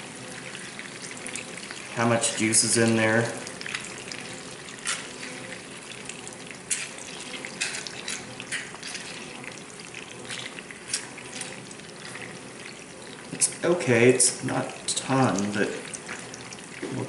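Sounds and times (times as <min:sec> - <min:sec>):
fish sizzling in oil: 0:00.0 - 0:17.0.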